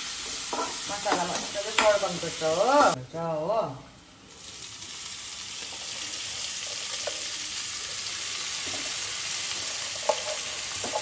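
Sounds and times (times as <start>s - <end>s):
oil sizzling in a frying pan: 0.0s - 3.0s, 4.1s - 11.0s.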